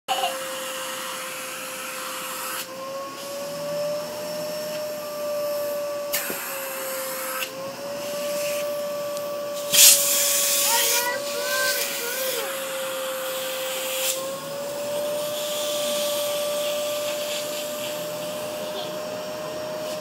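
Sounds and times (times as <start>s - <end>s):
vacuum cleaner running: 0.1s - 20.0s.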